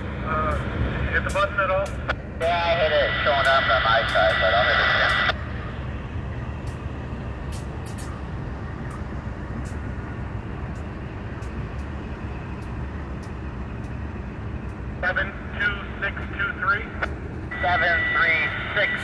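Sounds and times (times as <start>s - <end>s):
locomotive engine and wheel rumble: 0.0s - 19.0s.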